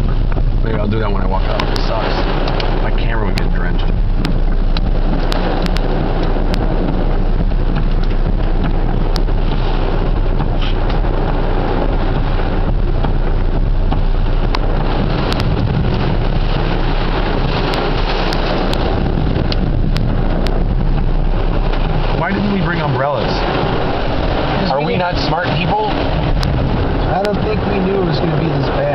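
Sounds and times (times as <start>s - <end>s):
heavy rain on a car: 0.0s - 28.9s
raindrops ticking on roof and glass: 0.0s - 28.9s.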